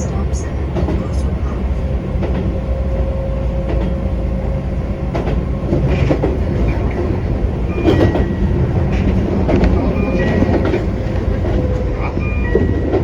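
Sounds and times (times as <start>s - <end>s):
train low rumble: 0.0s - 13.0s
wheels clacking over rail joints: 0.3s - 13.0s.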